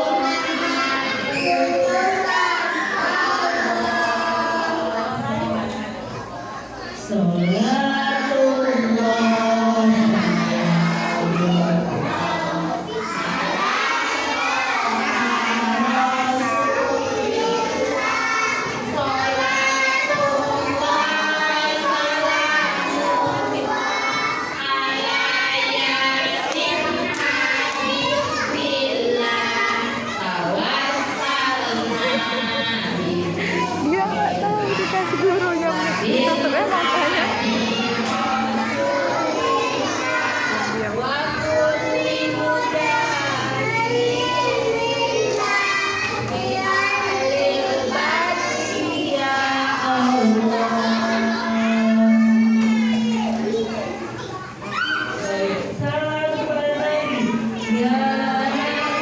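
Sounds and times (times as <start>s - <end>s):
young children singing together: 0.0s - 59.0s.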